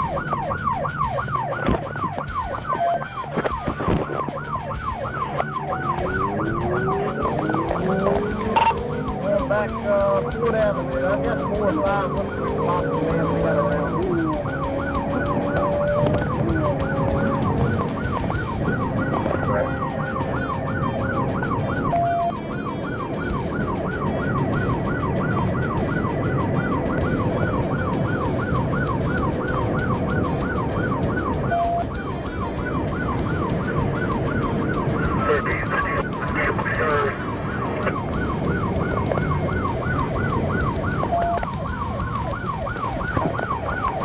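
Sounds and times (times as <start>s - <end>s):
car engine and tyres rumbling: 0.0s - 44.0s
police siren yelping: 0.0s - 44.0s.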